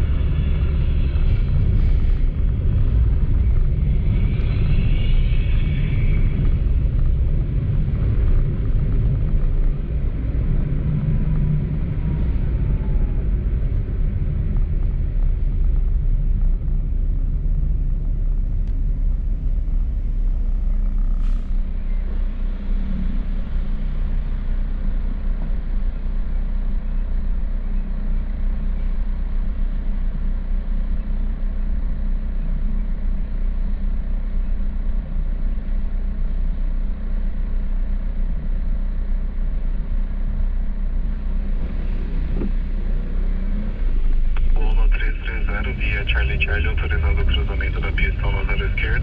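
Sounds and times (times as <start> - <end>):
car driving road and engine noise: 0.0 - 49.0.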